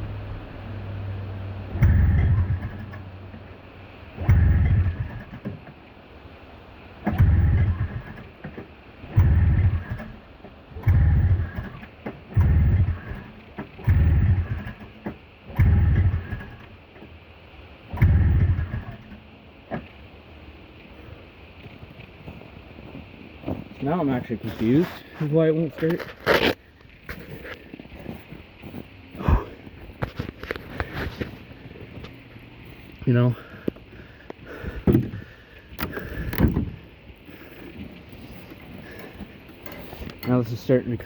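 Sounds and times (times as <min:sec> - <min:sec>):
snowmobile engine cranking: 0:01.5 - 0:05.8, 0:06.8 - 0:20.0, 0:20.8 - 0:41.0.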